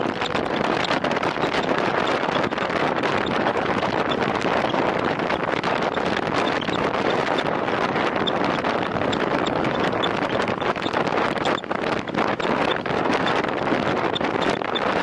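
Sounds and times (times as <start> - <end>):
wind rush on microphone: 0.0 - 15.0.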